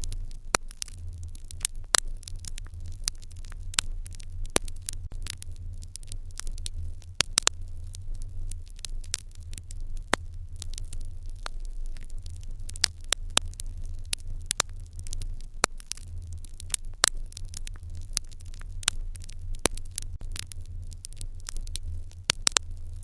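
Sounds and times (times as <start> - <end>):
low steady rumble: 0.0 - 23.0
wood fire crackling: 0.0 - 23.0.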